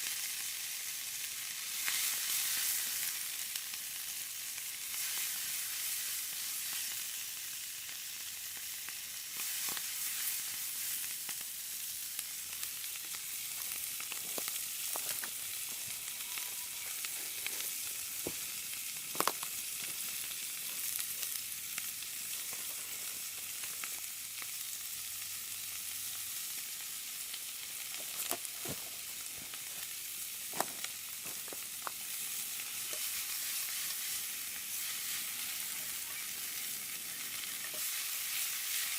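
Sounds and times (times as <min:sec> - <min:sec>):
noodles sizzling in a skillet: 0:00.0 - 0:38.9.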